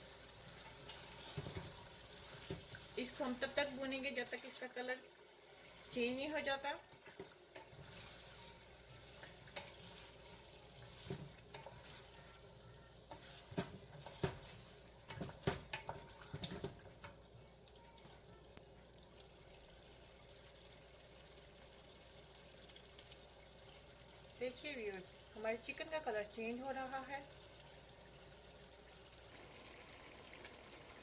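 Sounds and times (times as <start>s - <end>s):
chicken frying in hot oil: 0.0s - 31.0s.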